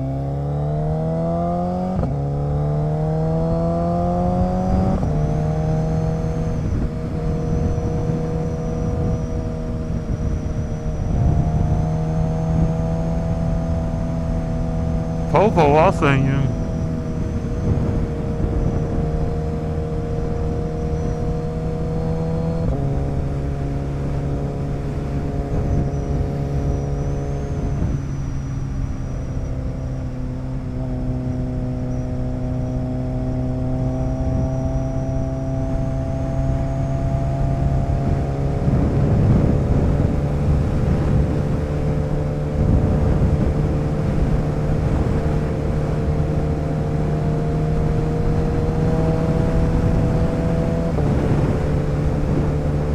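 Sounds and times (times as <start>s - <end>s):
road and wind noise: 0.0s - 52.9s.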